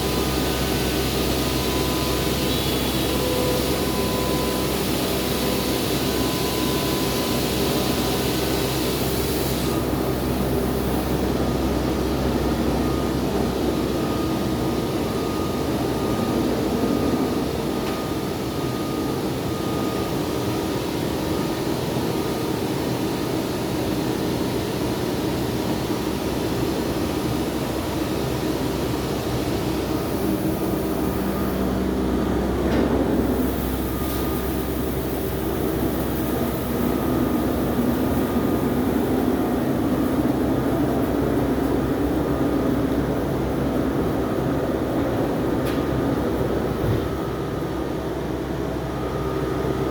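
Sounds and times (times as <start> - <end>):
machine hum with whining tones: 0.0 - 49.9.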